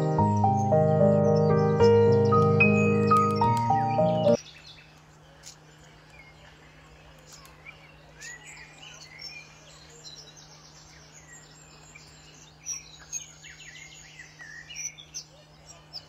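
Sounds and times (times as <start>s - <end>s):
wild birds chirping: 0.0s - 16.0s.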